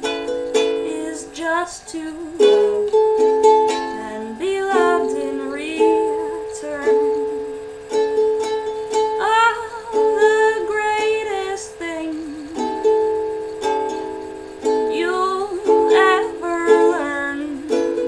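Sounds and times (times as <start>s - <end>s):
woman singing: 0.0s - 3.0s, 3.6s - 7.6s, 9.1s - 13.4s, 14.2s - 18.0s
ukulele strummed in slow chords: 0.0s - 18.0s.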